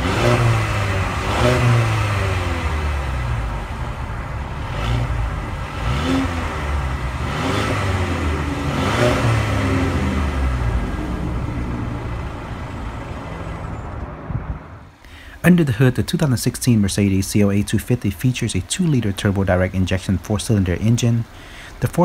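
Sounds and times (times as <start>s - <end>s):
car engine idling: 0.0s - 22.0s
car engine revving: 0.0s - 22.0s.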